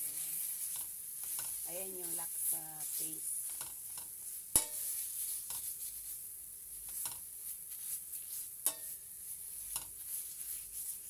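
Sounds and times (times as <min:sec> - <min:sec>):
paste and onions sizzling in oil: 0:00.0 - 0:11.0
metal spoon scraping a pan: 0:00.1 - 0:06.0, 0:06.9 - 0:11.0.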